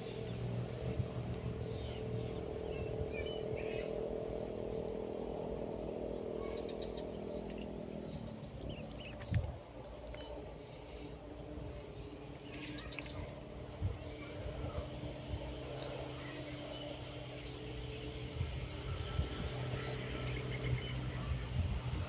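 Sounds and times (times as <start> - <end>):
insects chirping: 0.0 - 22.0
low steady hum: 0.0 - 22.0
rural outdoor ambience: 0.0 - 22.0.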